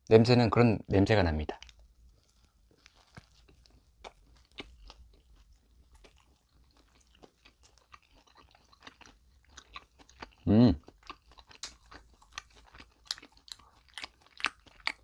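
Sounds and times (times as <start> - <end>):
soft crunchy chewing: 1.4 - 15.0.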